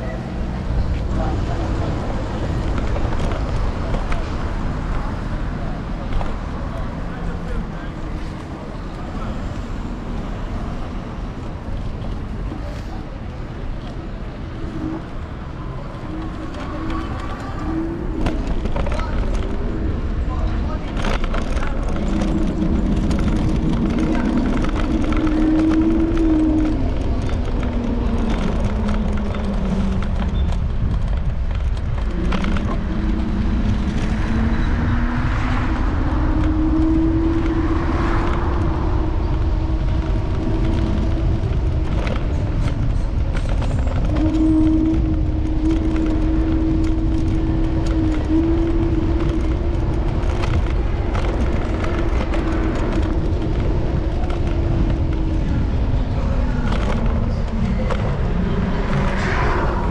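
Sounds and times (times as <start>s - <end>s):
heavy wind noise: 0.0s - 59.9s
road rumble: 0.0s - 59.9s.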